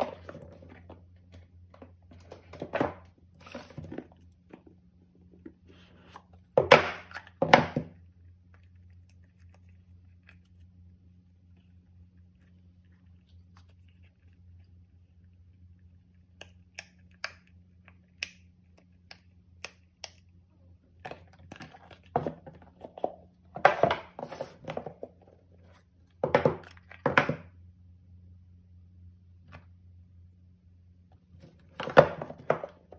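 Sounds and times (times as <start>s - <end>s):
faint low hum: 0.0s - 32.9s.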